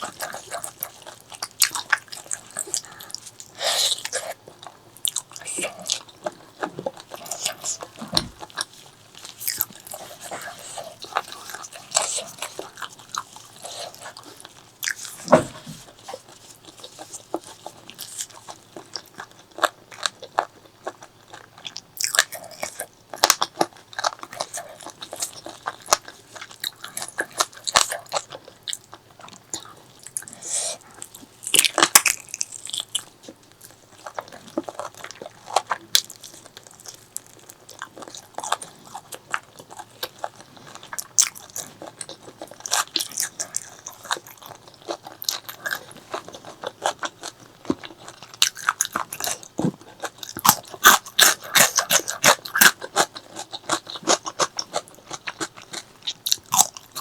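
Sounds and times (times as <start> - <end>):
person crunching and chewing: 0.0 - 57.0.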